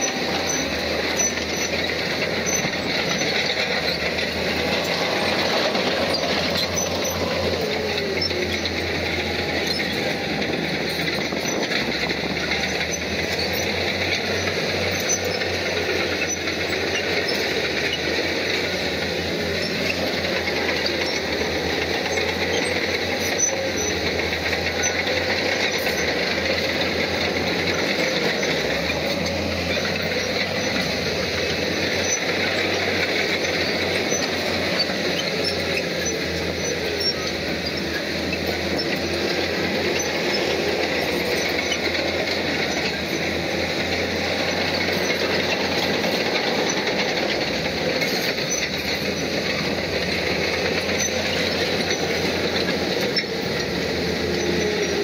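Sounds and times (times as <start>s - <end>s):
bulldozer diesel engine: 0.0s - 55.0s
steel tracks squealing and clattering: 0.0s - 55.0s.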